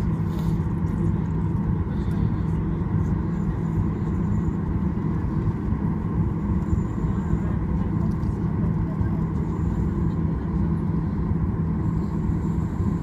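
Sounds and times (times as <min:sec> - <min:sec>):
jet engines idling hum: 0:00.0 - 0:13.0.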